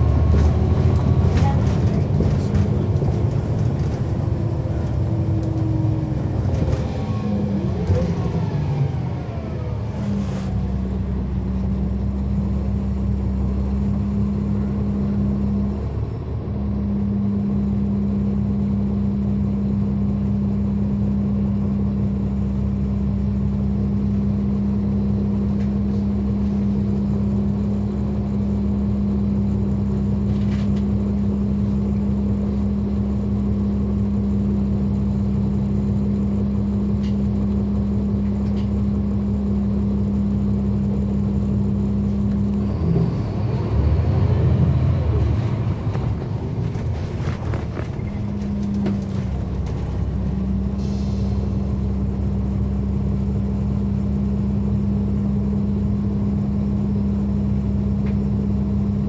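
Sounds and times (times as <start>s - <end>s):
bus diesel engine droning: 0.0s - 59.0s.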